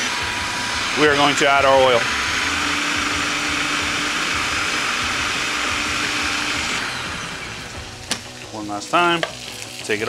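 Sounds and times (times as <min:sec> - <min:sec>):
food processor whirring: 0:00.0 - 0:08.4.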